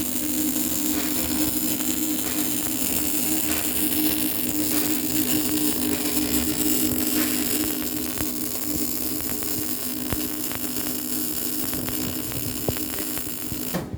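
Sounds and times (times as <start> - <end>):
sharp welding pops: 0.0 - 13.9
welding arc hiss and crackle: 0.0 - 13.9.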